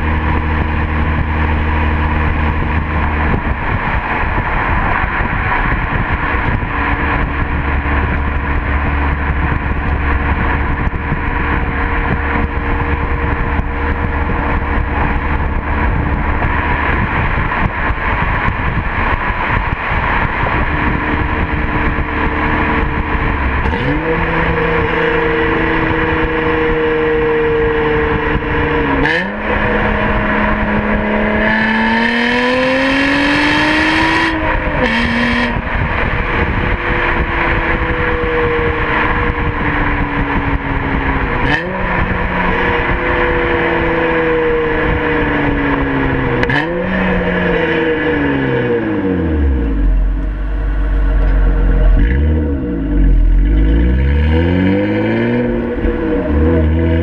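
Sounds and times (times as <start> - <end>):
car exhaust droning: 0.0 - 57.0
engine revving: 0.0 - 57.0.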